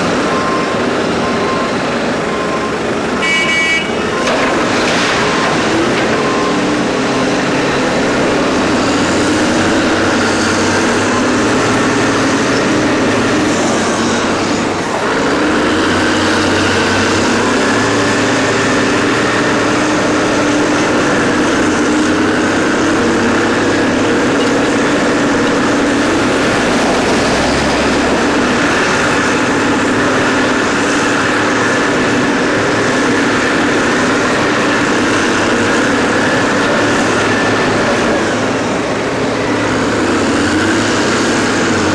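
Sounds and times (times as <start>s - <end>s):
haul truck diesel running: 0.0s - 41.9s
wheel loader diesel engine: 0.0s - 41.9s.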